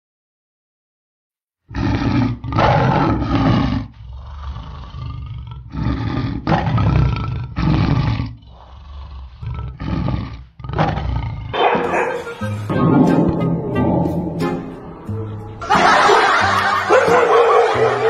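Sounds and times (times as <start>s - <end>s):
tiger growling: 1.7s - 18.0s
tiger roaring: 1.7s - 18.0s.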